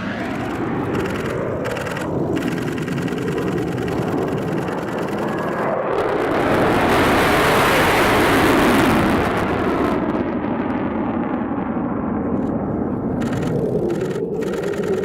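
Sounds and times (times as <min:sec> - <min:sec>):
fighter jet passing: 0:00.0 - 0:15.0.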